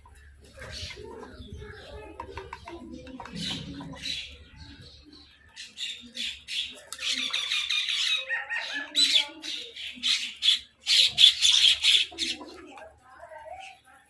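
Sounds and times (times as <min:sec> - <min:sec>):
birds squawking: 0:00.0 - 0:12.8
bird chattering: 0:00.0 - 0:12.9.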